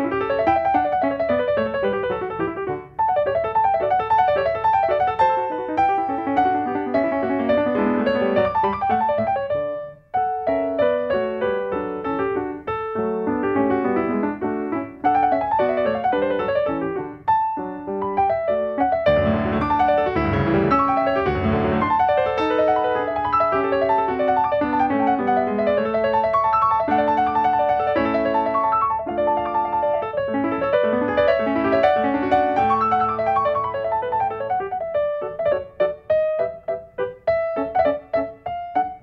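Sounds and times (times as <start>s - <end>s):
solo grand piano: 0.0s - 39.0s.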